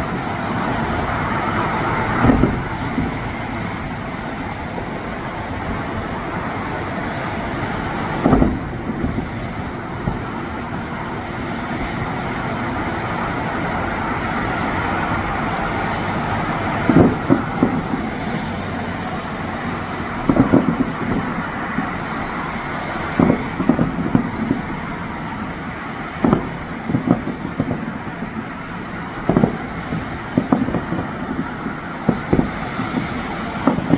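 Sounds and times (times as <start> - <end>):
fireworks bangs: 0.0 - 33.9
steady outdoor rumble: 0.0 - 33.9.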